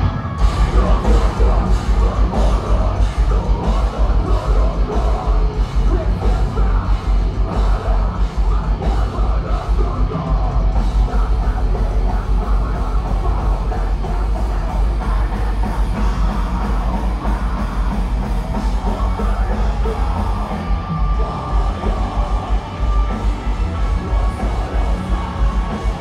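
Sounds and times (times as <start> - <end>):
distorted guitars: 0.0 - 26.0
yelled vocals: 0.0 - 26.0.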